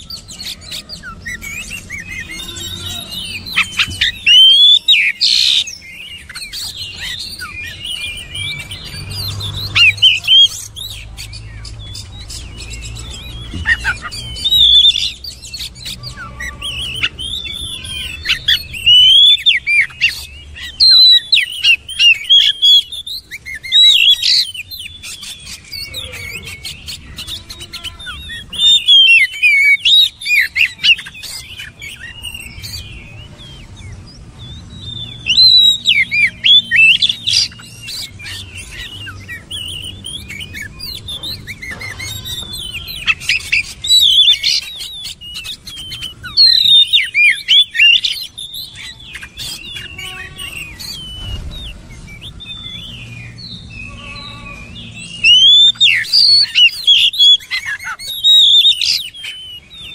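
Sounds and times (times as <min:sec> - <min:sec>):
songbird whistling and chirping: 0:00.0 - 0:59.9.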